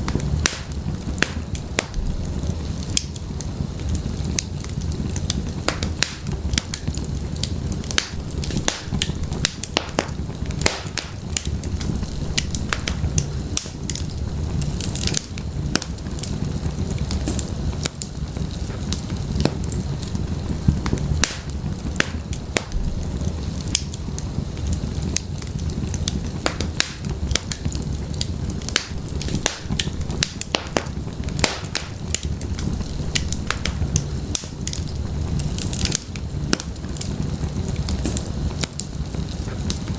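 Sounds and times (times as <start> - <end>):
firewood crackling and popping: 0.0 - 39.9
low rumble of flame: 0.0 - 39.9.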